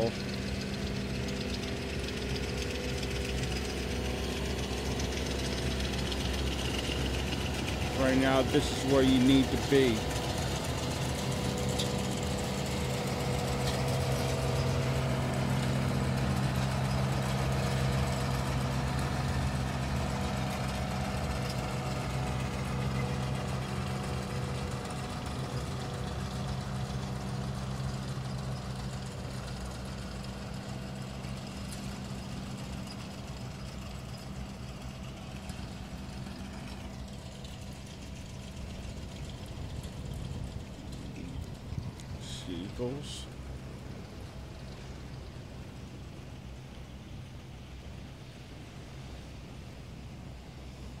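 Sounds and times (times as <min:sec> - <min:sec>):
engine humming steadily: 0:00.0 - 0:51.0.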